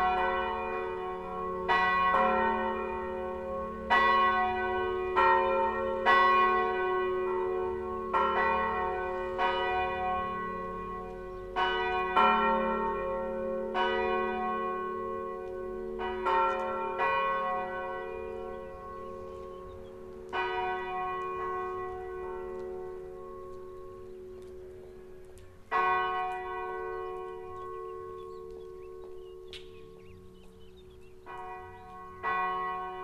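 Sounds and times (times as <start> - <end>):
church bells ringing: 0.0 - 33.0.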